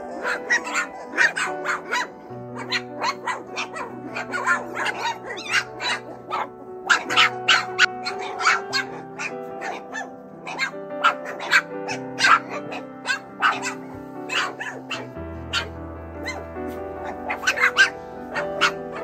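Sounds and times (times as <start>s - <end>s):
background music of held chords: 0.0s - 19.0s
puppies yipping and barking: 0.0s - 19.0s.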